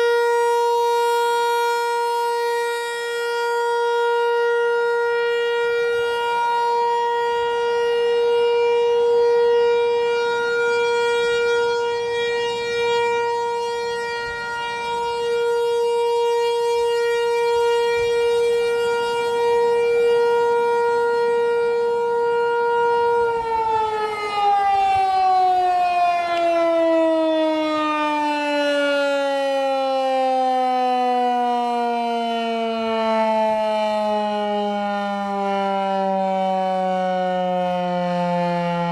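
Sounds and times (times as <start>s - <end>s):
siren winding down: 0.0s - 38.9s
warning siren steady tone: 0.0s - 38.9s.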